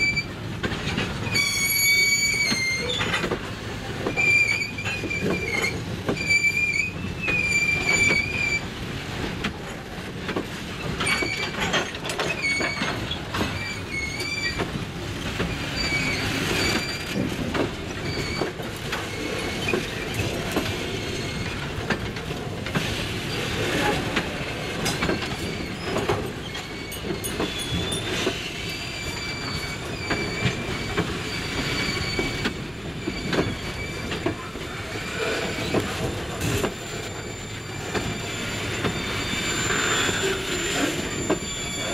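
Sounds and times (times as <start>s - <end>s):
train wheels squealing: 0.0s - 0.4s, 1.2s - 3.4s, 4.0s - 8.7s, 10.7s - 14.8s, 15.4s - 21.7s, 24.6s - 41.9s
train rumble: 0.0s - 41.9s
wheels clattering on rails: 0.0s - 41.9s.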